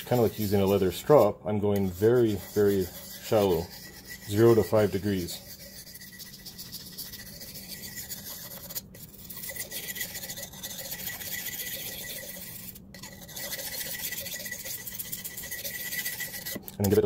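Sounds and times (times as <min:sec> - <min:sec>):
knife scraping on ceramic: 0:00.0 - 0:17.0.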